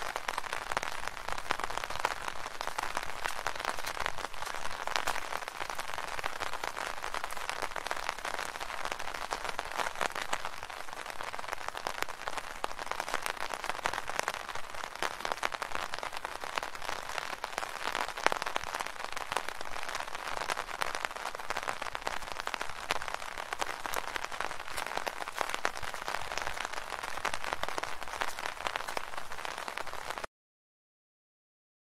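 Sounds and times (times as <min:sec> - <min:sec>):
rain on an umbrella: 0:00.0 - 0:30.3.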